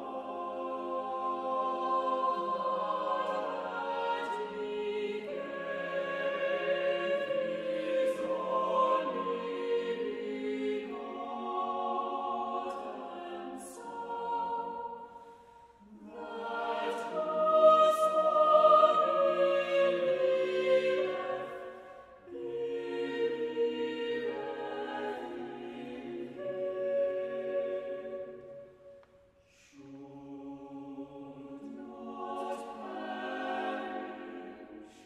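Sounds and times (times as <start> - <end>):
choir singing sacred music: 0.0 - 35.0.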